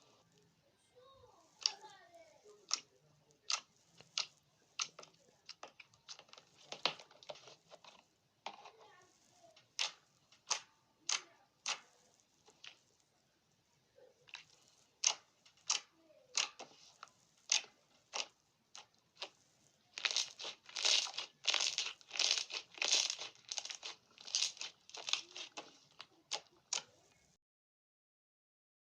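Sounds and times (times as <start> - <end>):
slime popping and crackling: 1.4 - 8.1, 9.0 - 13.1, 14.2 - 27.3.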